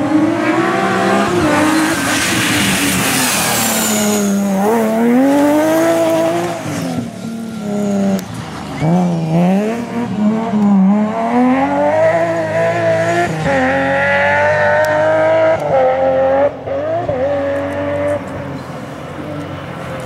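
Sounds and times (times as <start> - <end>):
rally car engine revving: 0.0 - 19.4.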